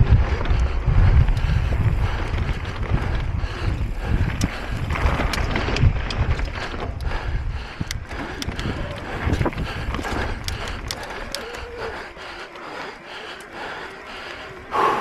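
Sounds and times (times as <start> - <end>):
bike tyres rumbling on trail: 0.0 - 15.0
wind buffeting microphone: 0.0 - 15.0.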